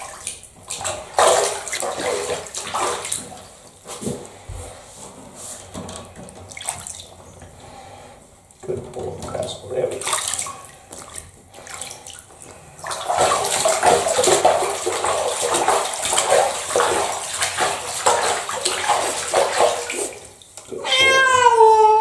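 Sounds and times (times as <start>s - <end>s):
water splashing in a tub: 0.0s - 4.4s, 5.5s - 7.5s, 8.6s - 22.0s.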